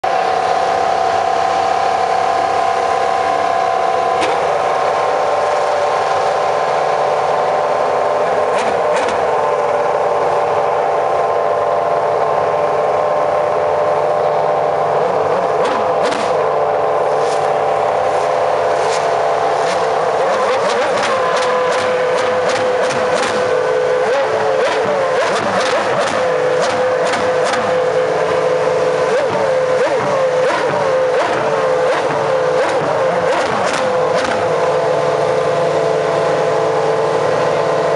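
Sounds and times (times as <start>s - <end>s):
racing car engine running: 0.0s - 37.9s.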